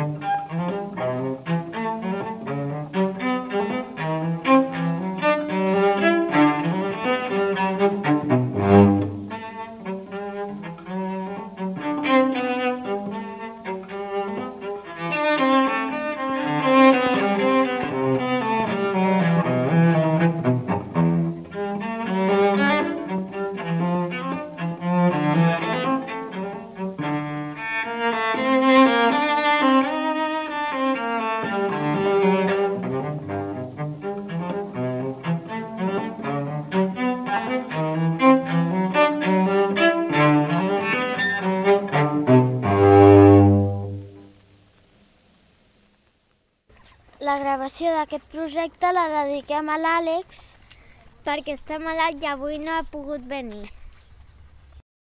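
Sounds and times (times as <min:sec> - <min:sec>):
cello playing: 0:00.0 - 0:44.4.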